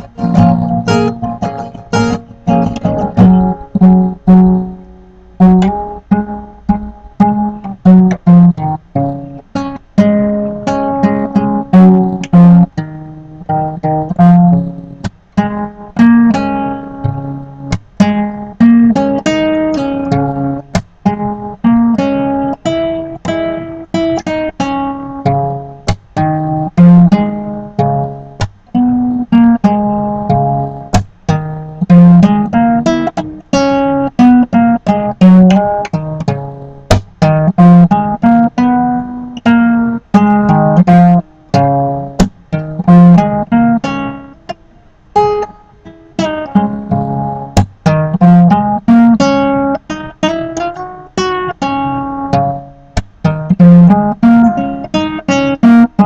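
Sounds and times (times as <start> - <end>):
acoustic guitar strumming and picking: 0.0 - 56.0.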